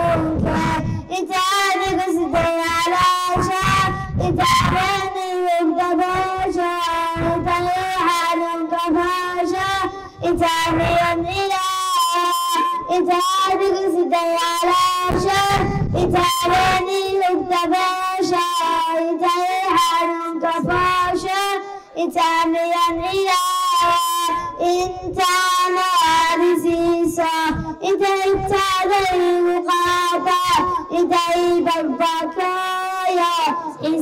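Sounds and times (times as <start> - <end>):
boy singing into a microphone: 0.0 - 34.0.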